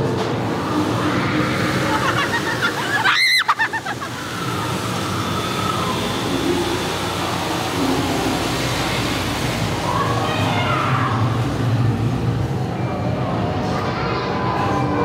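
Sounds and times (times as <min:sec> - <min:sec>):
noisy background din: 0:00.0 - 0:15.0.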